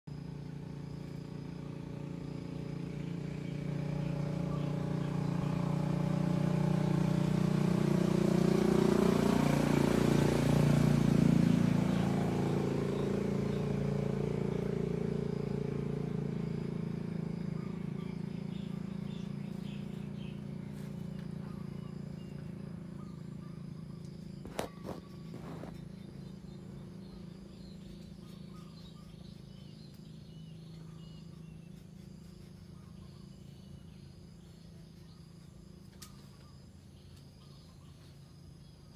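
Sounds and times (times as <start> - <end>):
vehicle engine passing by: 0.1 - 38.9.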